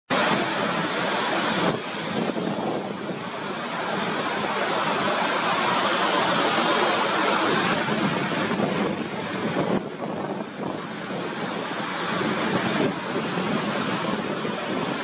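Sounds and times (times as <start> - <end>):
waves breaking: 0.1 - 15.0
wind blowing across microphone: 0.1 - 15.0.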